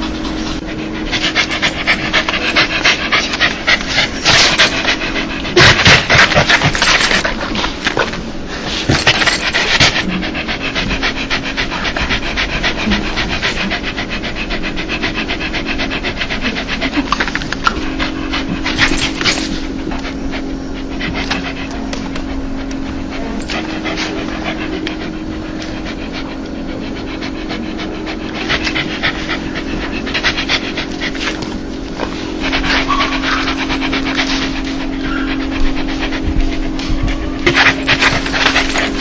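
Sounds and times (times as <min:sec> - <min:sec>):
dog panting: 0:00.0 - 0:39.0.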